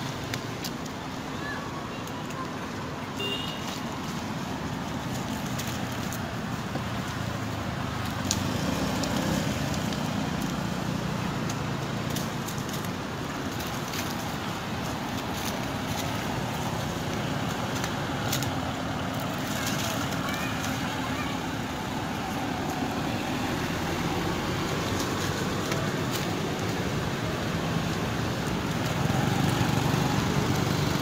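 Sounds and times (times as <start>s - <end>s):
dry leaves crackling: 0.0s - 31.0s.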